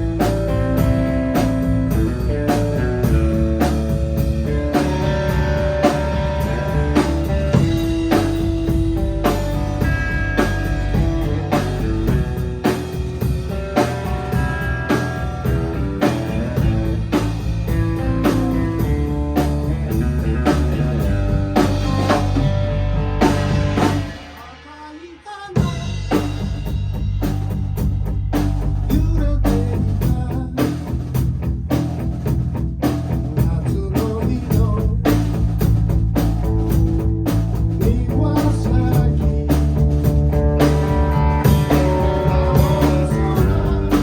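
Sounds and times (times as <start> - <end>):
band playing live: 0.0 - 44.0.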